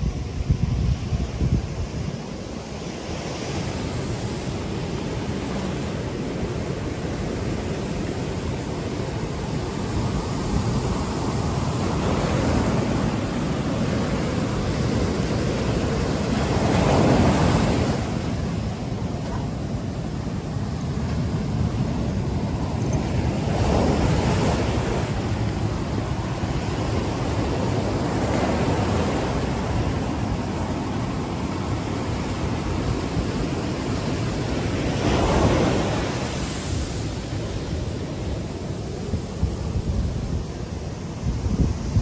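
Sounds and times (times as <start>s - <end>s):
ocean surf breaking on beach: 0.0s - 42.0s.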